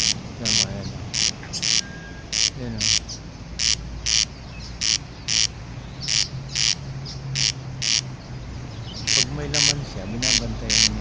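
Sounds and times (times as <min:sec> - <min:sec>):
birds giving harsh chirps: 0:00.0 - 0:11.0.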